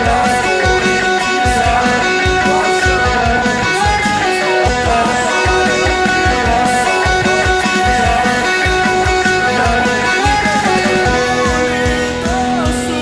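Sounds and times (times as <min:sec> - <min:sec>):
drums steady beat: 0:00.0 - 0:13.0
electric guitar melody: 0:00.0 - 0:13.0
rock band playing: 0:00.0 - 0:13.0.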